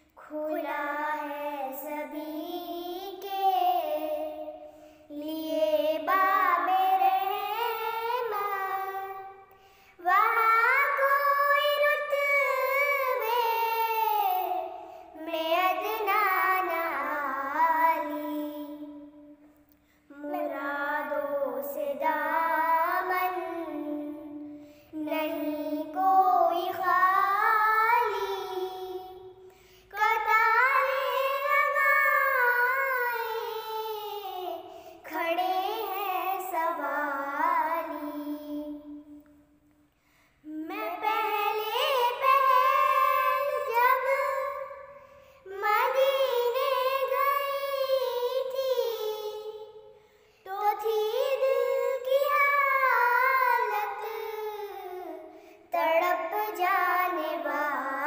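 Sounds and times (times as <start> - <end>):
girls singing unaccompanied: 0.0 - 9.4, 10.0 - 19.1, 20.2 - 39.2, 40.5 - 58.0.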